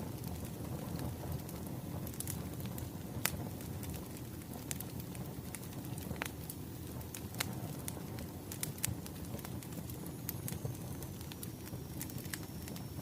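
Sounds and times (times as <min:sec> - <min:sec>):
wood fire crackling: 0:00.0 - 0:13.0
sharp pops of burning logs: 0:00.1 - 0:12.9.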